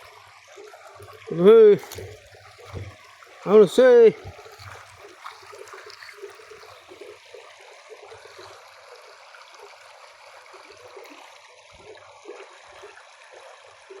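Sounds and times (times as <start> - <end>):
stream flowing over stones: 0.0 - 14.0.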